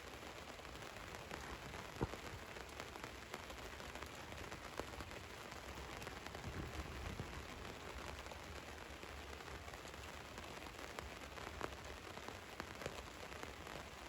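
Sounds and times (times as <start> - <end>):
rain pattering on a van: 0.0 - 14.0.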